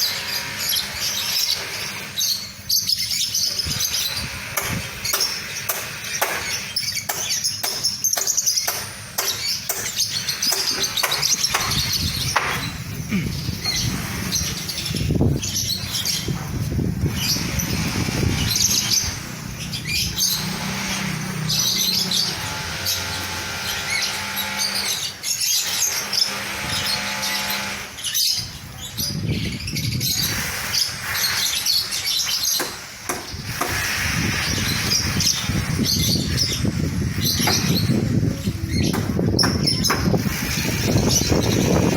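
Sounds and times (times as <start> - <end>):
lovebirds chirping and screeching: 0.0 - 41.9.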